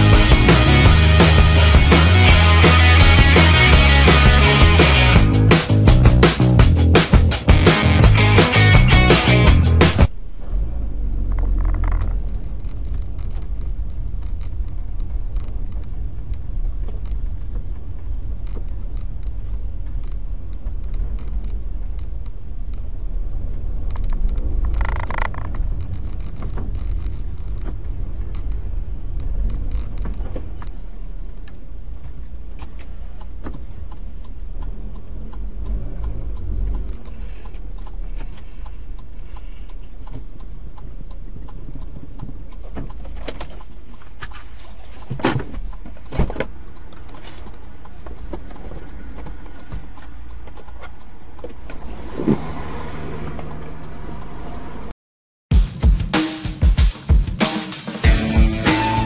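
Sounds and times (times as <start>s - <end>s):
car driving rumble: 0.0s - 54.9s.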